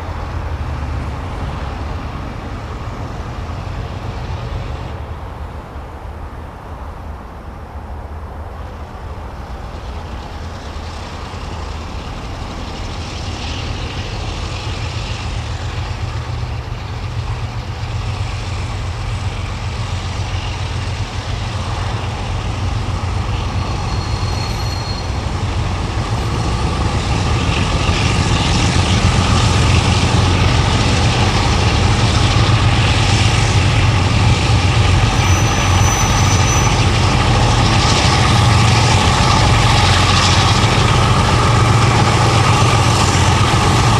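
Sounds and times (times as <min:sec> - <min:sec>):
locomotive engine droning: 0:00.0 - 0:43.9.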